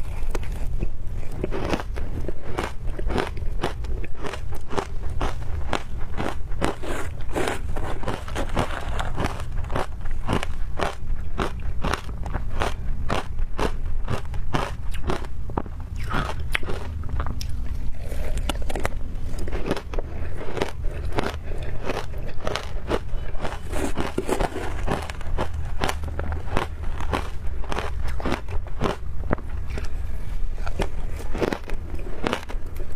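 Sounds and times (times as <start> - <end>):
ice crunching between teeth: 0.0 - 30.0, 30.6 - 32.9.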